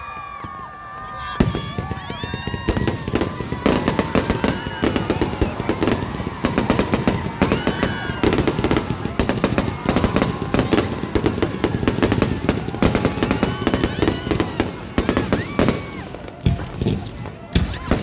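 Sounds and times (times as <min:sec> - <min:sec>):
fireworks bangs and crackles: 0:00.1 - 0:18.0.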